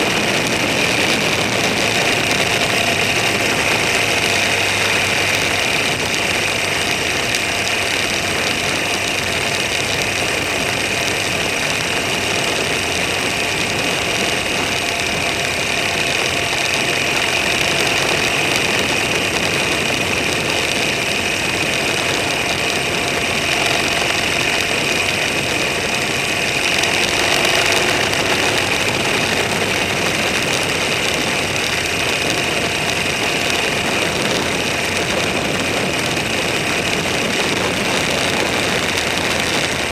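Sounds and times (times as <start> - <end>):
road and wind noise hiss: 0.0 - 39.9
vehicle engine drone: 0.0 - 39.9.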